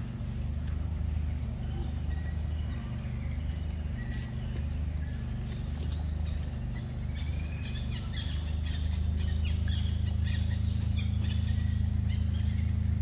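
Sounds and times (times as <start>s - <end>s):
low hum: 0.0s - 13.0s
small birds chirping: 0.0s - 13.0s.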